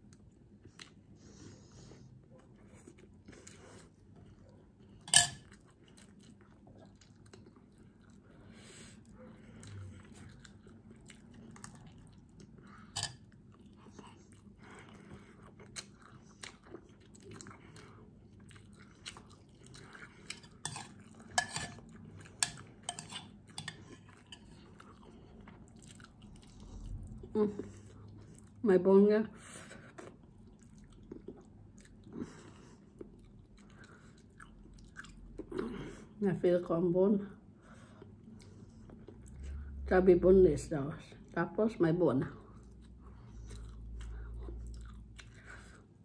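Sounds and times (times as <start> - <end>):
chewing: 0.0 - 28.6, 29.6 - 36.1, 37.6 - 39.8, 42.3 - 46.0.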